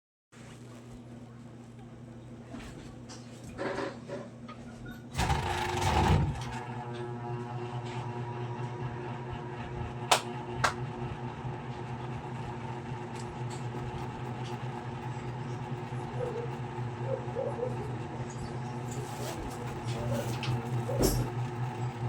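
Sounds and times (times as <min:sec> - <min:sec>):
ceiling fan motor hum: 0:00.4 - 0:22.0.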